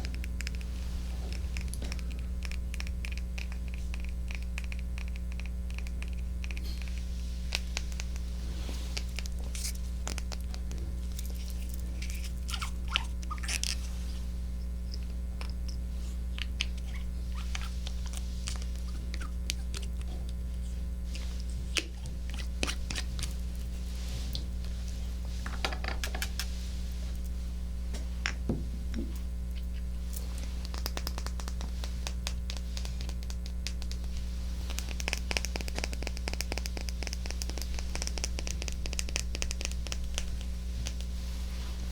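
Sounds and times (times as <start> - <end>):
light scratching: 0.0 - 41.9
steady low hum: 0.0 - 41.9.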